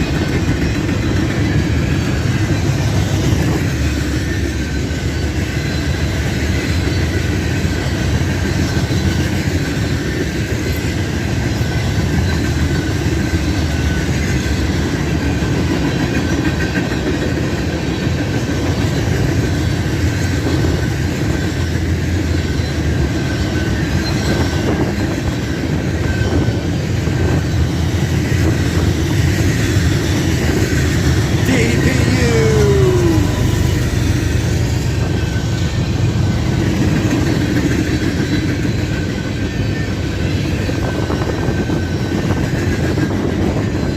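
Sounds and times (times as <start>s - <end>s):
wheels clickety-clack on rails: 0.0s - 31.5s, 32.5s - 43.9s
freight train cars rolling past: 0.0s - 43.9s.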